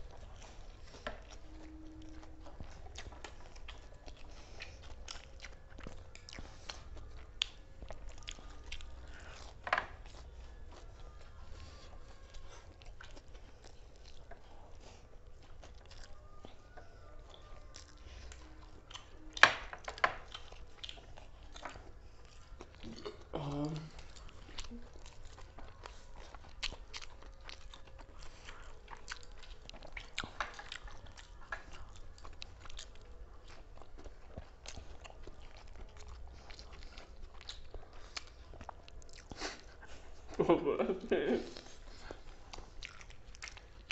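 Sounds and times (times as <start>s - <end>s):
people chewing and crunching: 0.0s - 43.9s.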